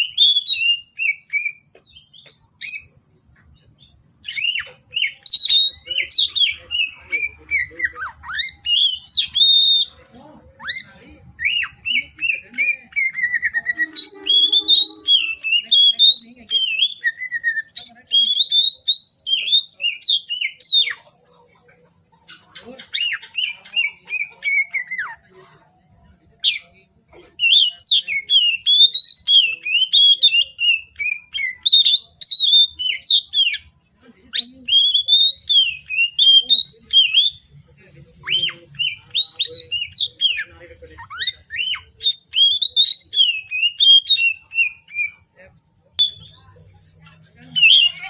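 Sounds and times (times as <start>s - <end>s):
bird singing whistled phrases: 0.0s - 3.2s, 3.8s - 10.0s, 10.6s - 21.1s, 22.7s - 25.3s, 27.4s - 33.7s, 34.3s - 37.5s, 38.2s - 45.4s, 46.0s - 48.0s.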